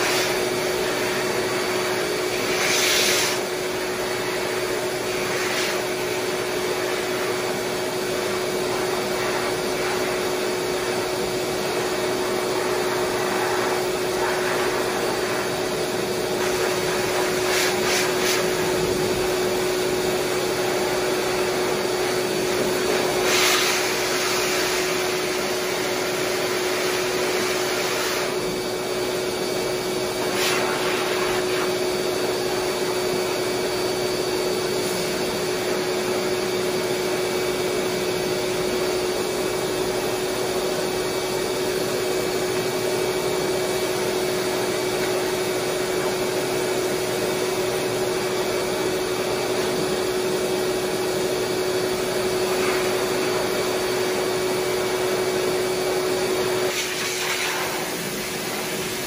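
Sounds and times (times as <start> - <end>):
dog grooming dryer blowing air: 0.0 - 59.0.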